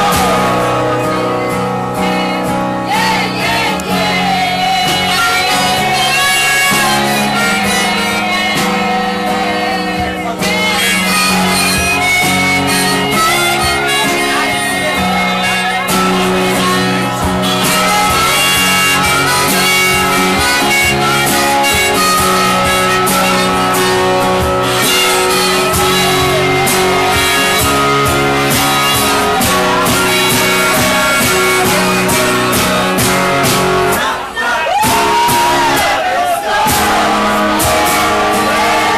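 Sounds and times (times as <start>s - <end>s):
harmonica long held notes: 0.0s - 38.9s
strummed acoustic guitar: 0.0s - 38.9s.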